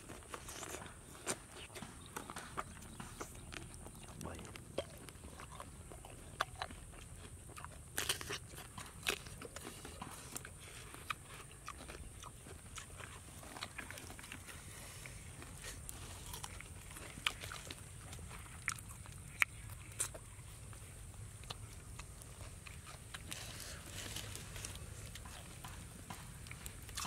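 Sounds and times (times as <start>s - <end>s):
person chewing and crunching food: 0.0s - 27.0s.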